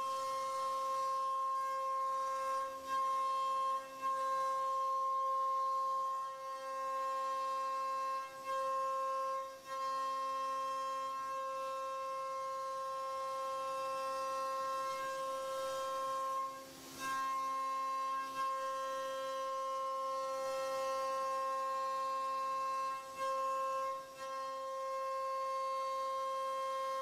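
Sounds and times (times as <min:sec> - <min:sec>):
router spindle whine milling wood: 0:00.0 - 0:27.0.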